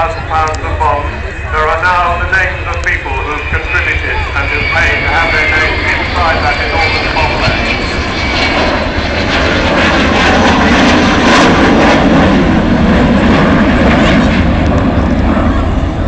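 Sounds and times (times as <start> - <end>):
loud jet engine noise: 0.0 - 16.0.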